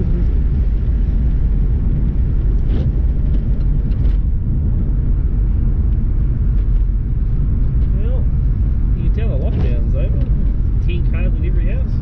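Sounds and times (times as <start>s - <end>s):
car engine low rumble: 0.0s - 12.0s
road noise: 0.0s - 12.0s.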